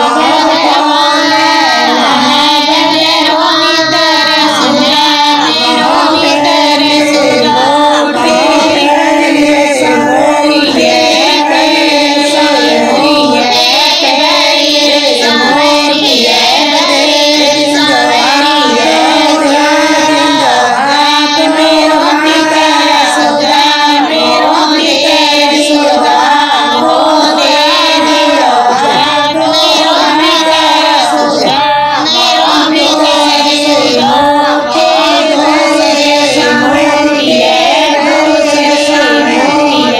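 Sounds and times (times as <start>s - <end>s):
person singing: 0.0s - 39.9s.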